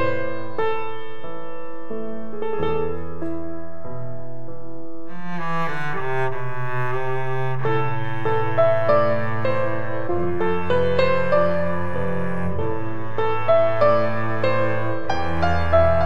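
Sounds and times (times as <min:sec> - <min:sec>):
piano and bowed strings music: 0:00.0 - 0:16.0.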